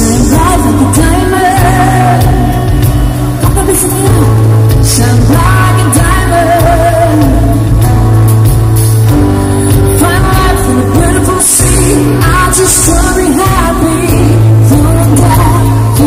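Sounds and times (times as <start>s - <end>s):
person singing: 0.0s - 8.1s, 9.1s - 16.0s
live pop-rock band: 0.0s - 16.0s.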